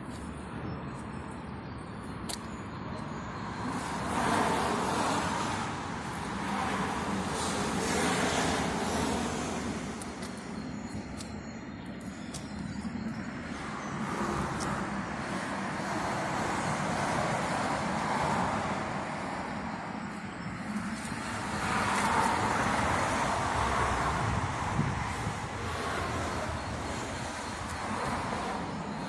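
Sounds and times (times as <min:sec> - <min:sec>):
road noise: 0:00.0 - 0:29.0.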